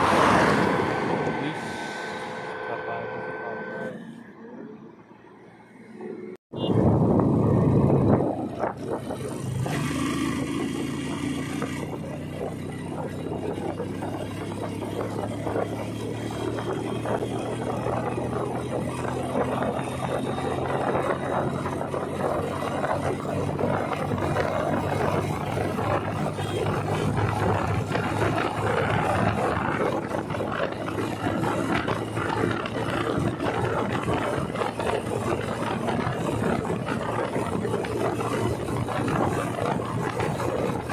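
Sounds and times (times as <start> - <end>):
wind and road rush: 0.0 - 40.9
motorcycle engine running: 6.5 - 40.9.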